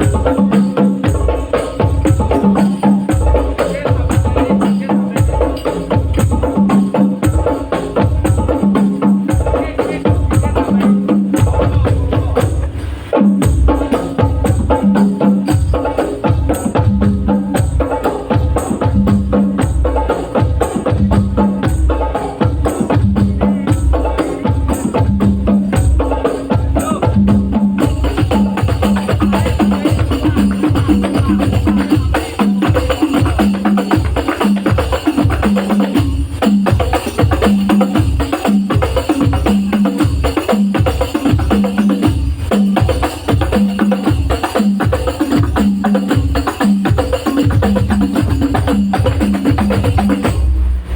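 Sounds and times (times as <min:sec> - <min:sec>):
deep bass drum beating: 0:00.0 - 0:50.9
frame drums beating: 0:00.0 - 0:50.9.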